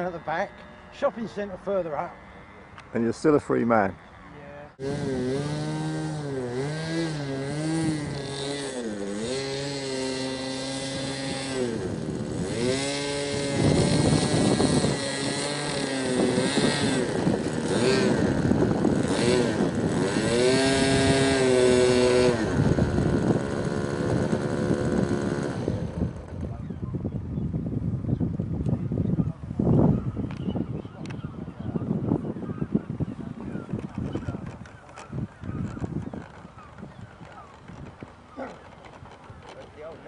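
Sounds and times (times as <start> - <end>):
model aircraft engine in flight: 0.0 - 40.0
gusty wind noise: 4.8 - 40.0.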